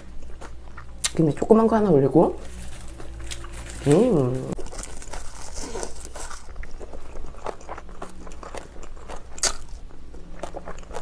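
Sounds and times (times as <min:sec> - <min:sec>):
crunchy food being chewed: 0:00.0 - 0:11.0.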